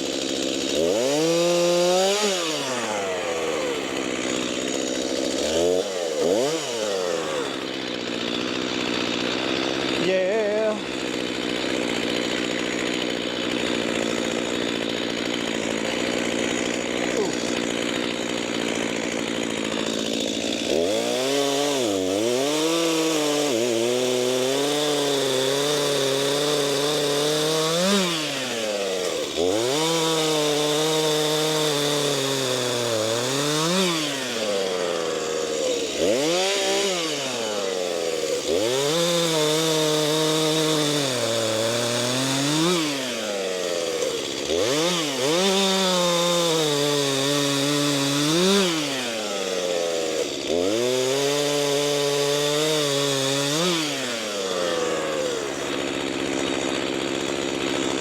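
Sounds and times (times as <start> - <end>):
chainsaw cutting logs: 0.0 - 58.0.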